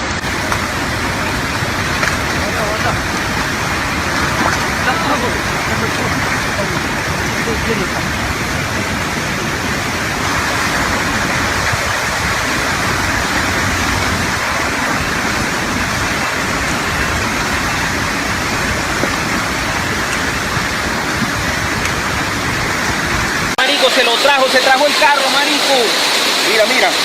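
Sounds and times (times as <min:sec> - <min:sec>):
floodwater rushing loudly: 0:00.0 - 0:27.0.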